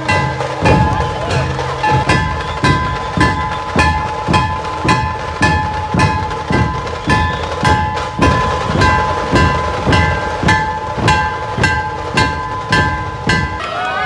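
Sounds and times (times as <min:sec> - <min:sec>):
barrel drums beating: 0:00.0 - 0:13.6
steady high ringing: 0:00.0 - 0:14.0.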